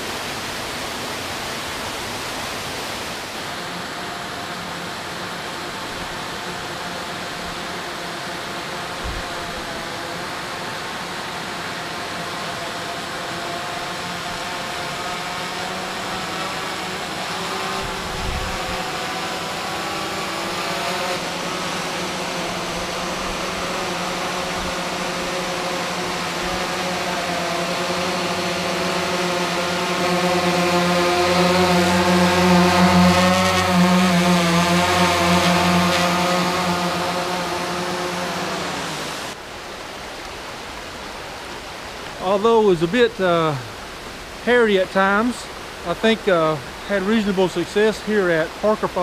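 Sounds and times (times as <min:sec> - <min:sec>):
drone propellers buzzing: 0:00.0 - 0:39.8
rushing water hiss: 0:00.0 - 0:49.0.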